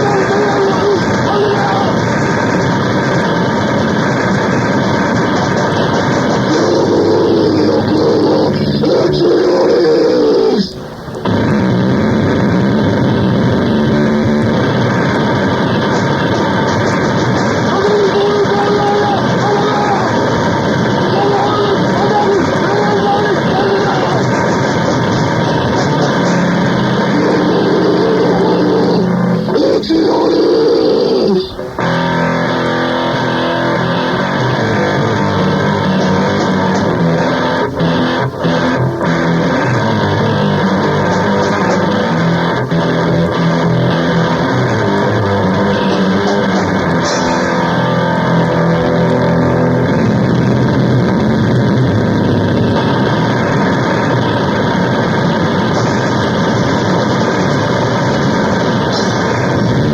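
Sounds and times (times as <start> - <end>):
loud engine running: 0.0 - 59.9
loud rock music with guitar: 0.0 - 59.9.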